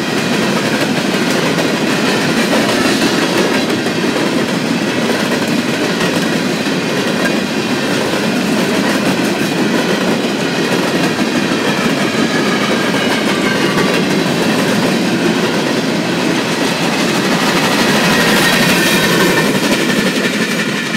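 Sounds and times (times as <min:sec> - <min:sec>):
train wheels clickety-clack: 0:00.0 - 0:20.9.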